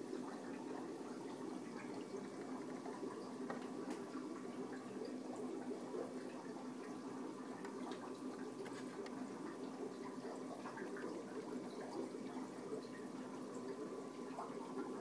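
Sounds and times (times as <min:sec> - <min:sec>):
aquarium water bubbling: 0:00.0 - 0:15.0
small pops and drips: 0:00.1 - 0:15.0.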